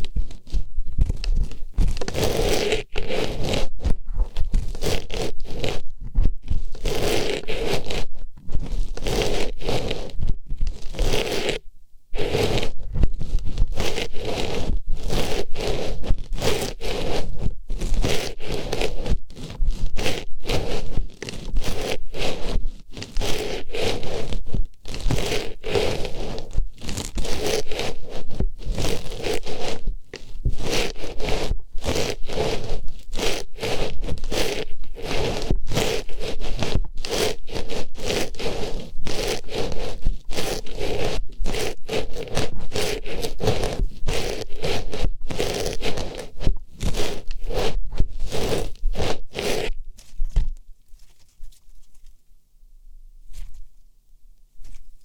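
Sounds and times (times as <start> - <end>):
scratchy rustling on microphone: 0.0 - 52.3, 53.2 - 53.9, 54.5 - 55.0.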